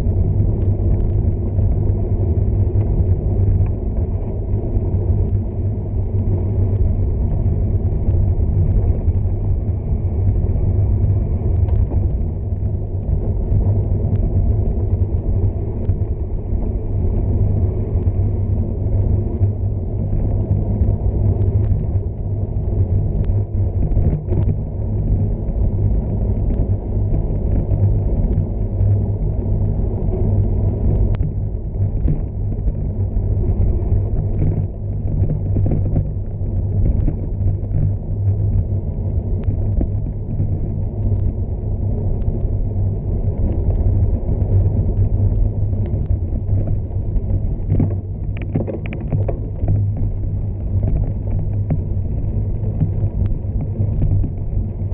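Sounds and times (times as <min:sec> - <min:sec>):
bike tyres on dirt road: 0:00.0 - 0:54.9
gravel and bike rattles: 0:00.0 - 0:54.9
wind buffeting microphone: 0:00.0 - 0:54.9.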